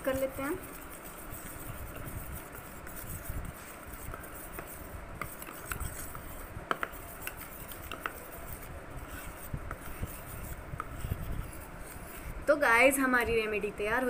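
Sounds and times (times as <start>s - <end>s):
spoon scraping paste in bowl: 0.0s - 12.4s.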